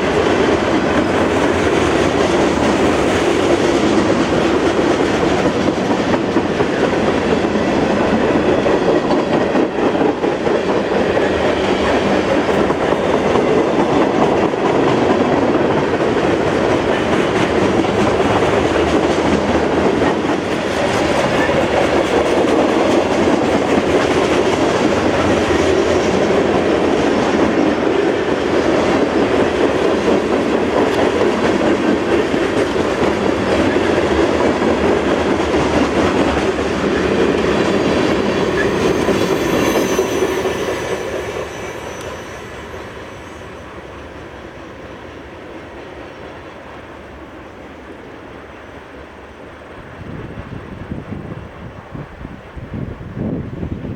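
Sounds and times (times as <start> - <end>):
freight train rumbling: 0.0 - 53.9.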